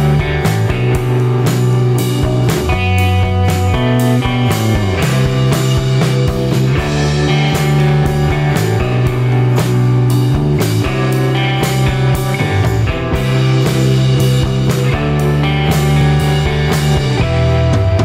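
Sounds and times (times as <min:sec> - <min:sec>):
guitar: 0:00.0 - 0:18.0
steady drum beat: 0:00.0 - 0:18.0.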